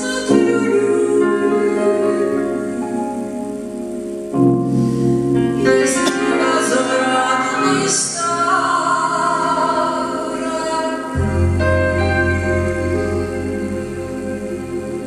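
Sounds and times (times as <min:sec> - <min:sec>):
woman singing into microphone: 0:00.0 - 0:03.6, 0:05.6 - 0:14.0
instrumental accompaniment: 0:00.0 - 0:15.0.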